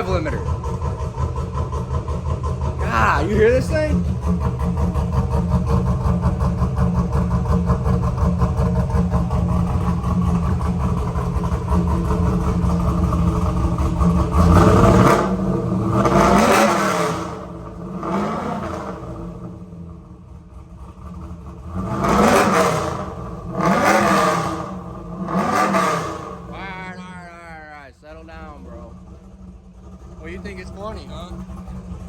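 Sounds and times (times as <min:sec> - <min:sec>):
engine idling: 0:00.0 - 0:32.0
engine revving: 0:00.0 - 0:32.0.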